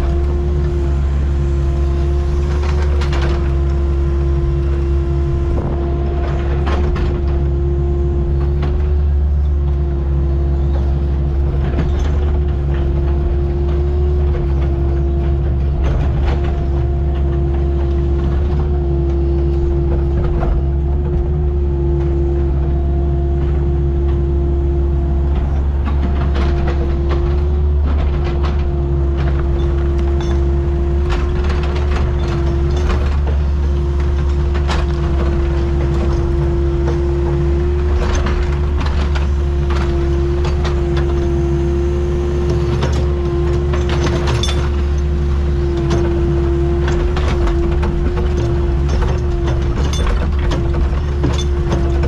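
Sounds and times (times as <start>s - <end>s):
excavator diesel engine: 0.0s - 52.0s
clanks and knocks: 1.7s - 52.0s.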